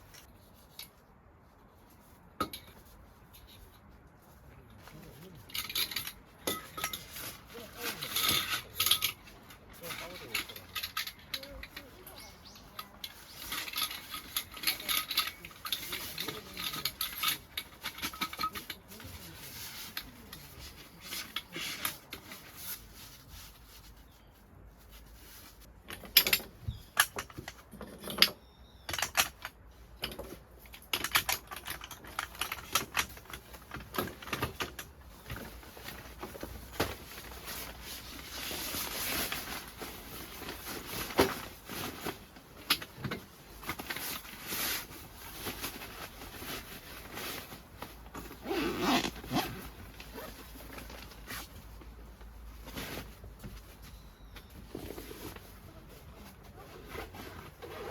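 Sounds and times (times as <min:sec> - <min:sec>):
soft rustling: 0:00.0 - 0:25.8, 0:34.9 - 0:57.9.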